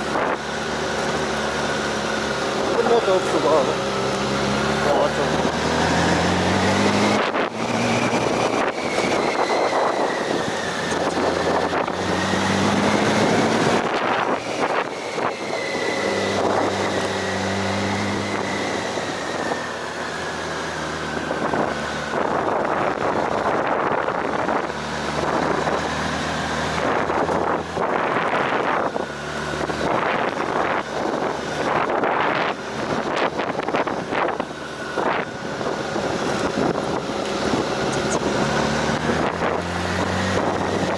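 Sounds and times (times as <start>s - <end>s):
wind noise on microphone: 0.0s - 3.1s, 4.5s - 40.9s
motorcycle engine revving: 0.0s - 40.9s.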